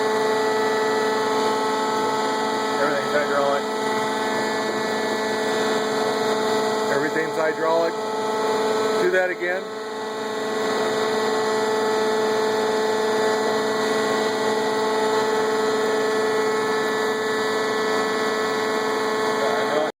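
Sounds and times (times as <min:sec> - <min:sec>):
bandsaw motor whining: 0:00.0 - 0:19.9.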